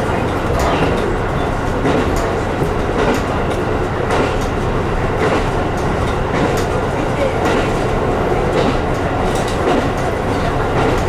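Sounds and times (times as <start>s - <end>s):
railcar engine and wheels rumbling: 0.0s - 11.0s.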